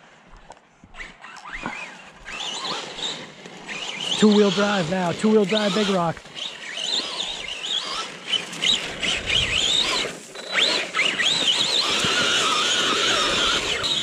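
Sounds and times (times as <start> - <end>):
electric motor whining: 1.0 - 14.0
hiss of toy truck running: 1.6 - 14.0.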